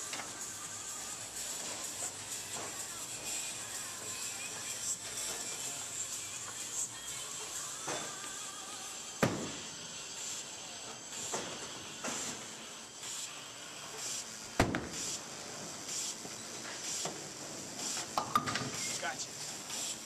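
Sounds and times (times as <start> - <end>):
bowling alley hiss: 0.0 - 20.0.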